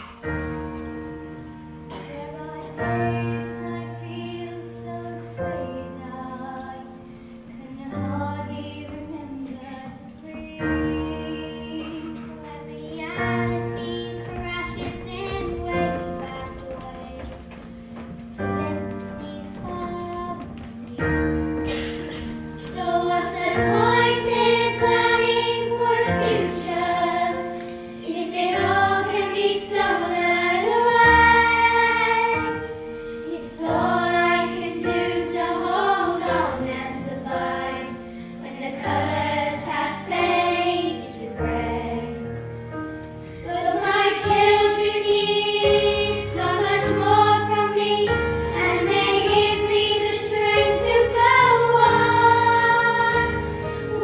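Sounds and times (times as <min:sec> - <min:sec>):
girls choir singing: 0:00.0 - 0:54.0
instrumental backing music: 0:00.0 - 0:54.0.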